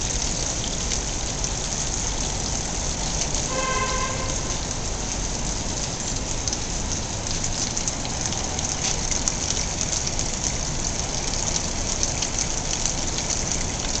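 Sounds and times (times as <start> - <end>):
water splashing into basin: 0.0 - 14.0.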